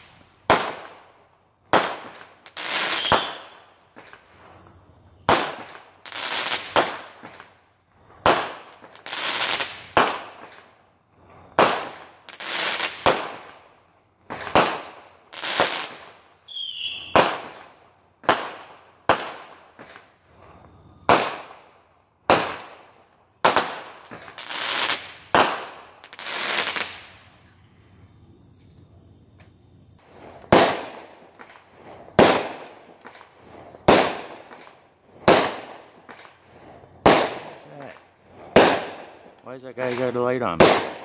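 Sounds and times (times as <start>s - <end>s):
fireworks bangs echoing: 0.0s - 4.6s, 5.2s - 27.3s, 30.0s - 41.0s.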